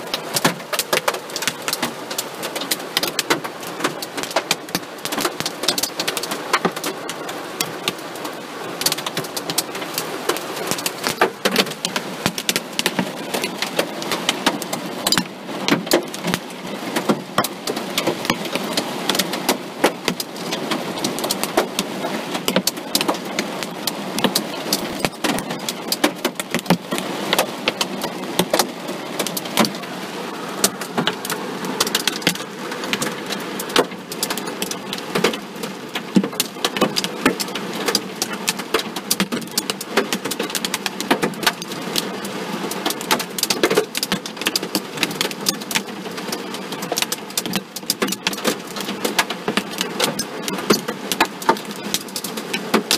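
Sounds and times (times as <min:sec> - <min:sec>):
hailstones hitting car metal: 0:00.1 - 0:52.9.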